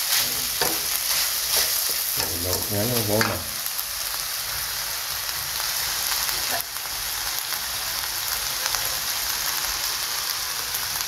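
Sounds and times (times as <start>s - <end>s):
pork skin sizzling in a wok: 0.0s - 11.0s.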